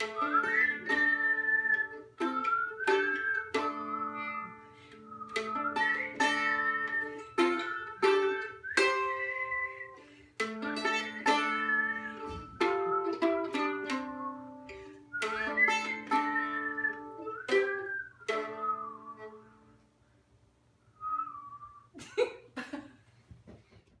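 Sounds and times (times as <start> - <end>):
people whistling a tune: 0.0 - 10.1, 11.0 - 19.4, 20.9 - 21.9
faint whistle: 0.0 - 10.2, 11.0 - 19.8, 20.8 - 22.0
strummed mandolin chords: 0.0 - 19.8.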